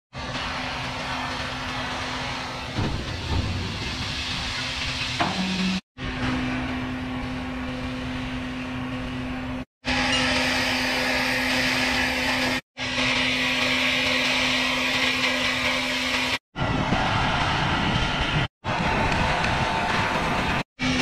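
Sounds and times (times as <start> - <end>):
sawmill saw machinery running: 0.2 - 21.0.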